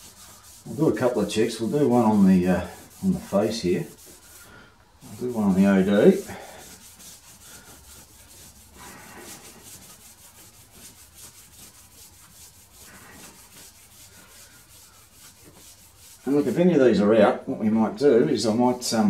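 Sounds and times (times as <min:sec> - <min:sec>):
cloth rag rubbing metal: 0:00.0 - 0:16.9.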